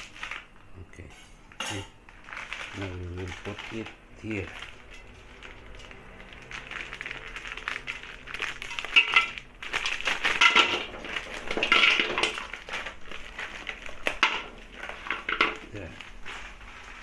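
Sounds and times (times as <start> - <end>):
candy clattering in metal wok: 1.6 - 17.0.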